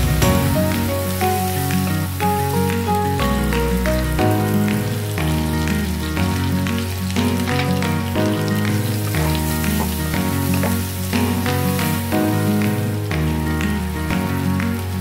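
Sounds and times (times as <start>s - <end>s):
background music with bass: 0.0s - 15.0s
vegetables sizzling in butter: 0.0s - 15.0s.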